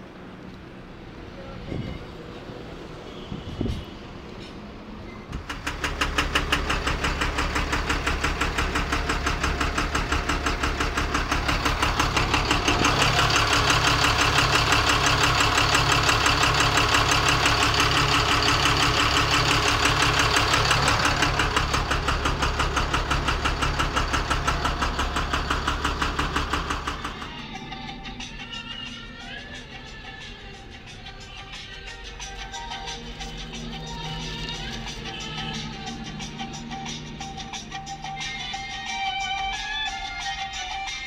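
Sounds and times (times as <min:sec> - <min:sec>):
truck diesel engine idling: 0:04.8 - 0:41.0
rapid engine knocking: 0:05.4 - 0:41.0.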